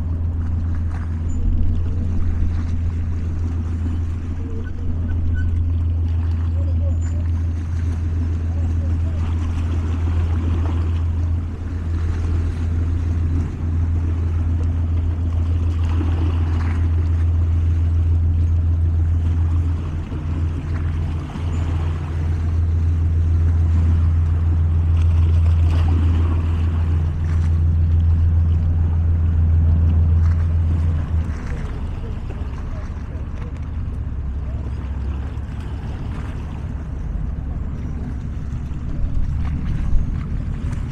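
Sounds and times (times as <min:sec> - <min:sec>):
boat engine hum: 0:00.0 - 0:40.9
small waves lapping on rocks: 0:00.0 - 0:40.9.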